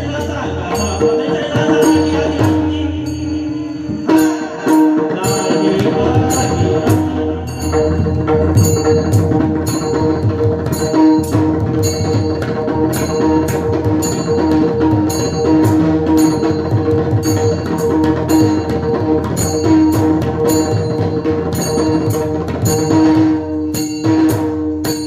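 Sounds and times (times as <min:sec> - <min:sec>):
hand drum playing: 0:00.0 - 0:25.0.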